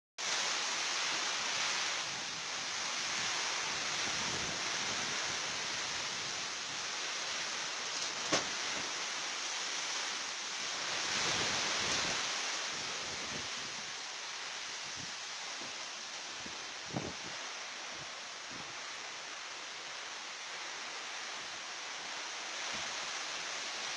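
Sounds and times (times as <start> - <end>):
storm wind and rain through trees: 0.2 - 23.9.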